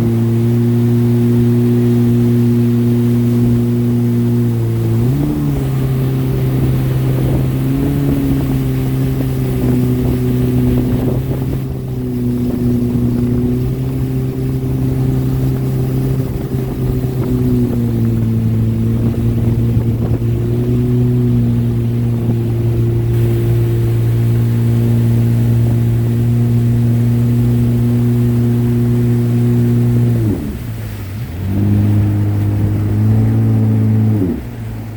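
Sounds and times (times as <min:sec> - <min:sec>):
jet ski engine running: 0:00.0 - 0:34.9.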